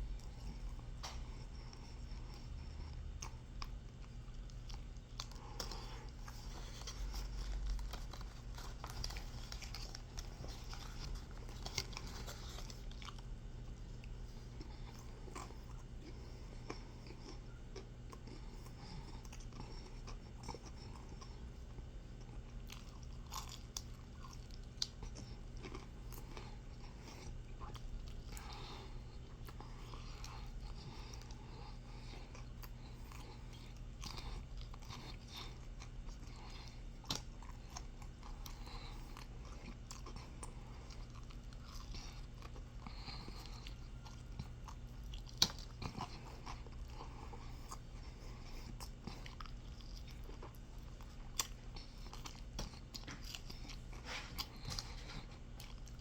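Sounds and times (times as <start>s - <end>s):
person chewing and crunching food: 0.0s - 56.0s
steady low hum: 0.0s - 56.0s.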